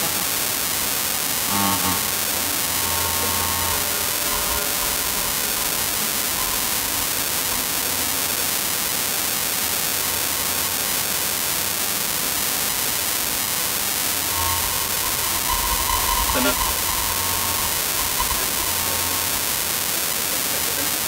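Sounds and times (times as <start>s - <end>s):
faint steady tones: 0.0s - 21.0s
loud steady hiss: 0.0s - 21.0s.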